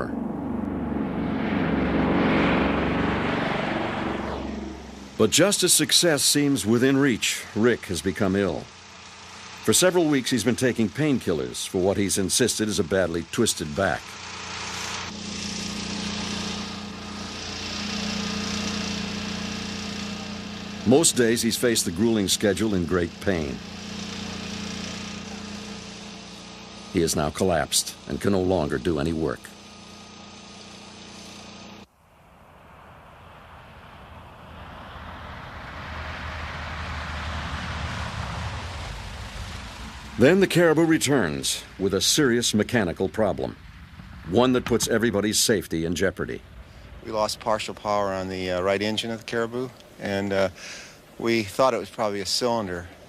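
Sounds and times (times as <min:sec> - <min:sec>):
engine running steadily: 0:00.0 - 0:31.9, 0:32.7 - 0:53.0
mechanical hum: 0:00.0 - 0:53.0
hissing wash: 0:00.2 - 0:53.0.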